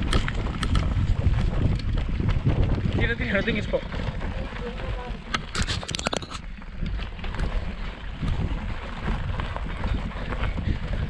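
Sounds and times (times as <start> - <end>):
bike rumbling over bumpy grass: 0.0 - 11.0
wind buffeting microphone: 0.0 - 11.0.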